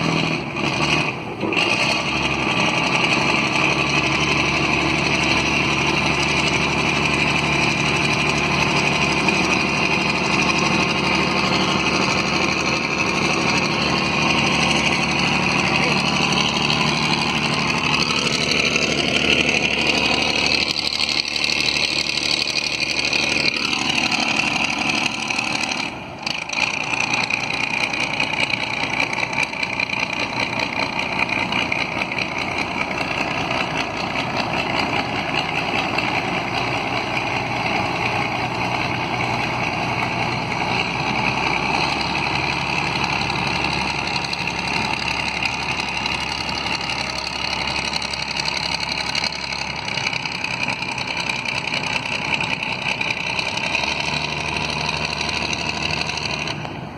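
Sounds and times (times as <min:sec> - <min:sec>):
boat engine rumbling: 0:00.0 - 0:56.9.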